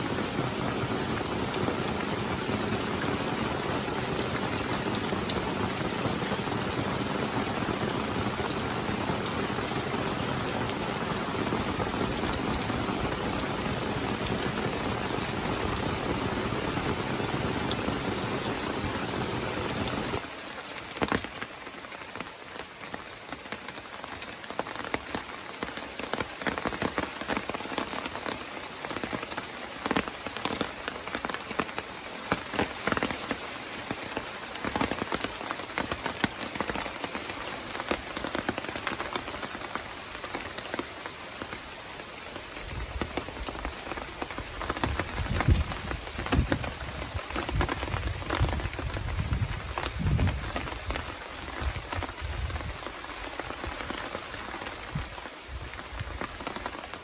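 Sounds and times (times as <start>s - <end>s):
rain falling: 0.0s - 57.0s
raindrops hitting: 0.0s - 57.0s.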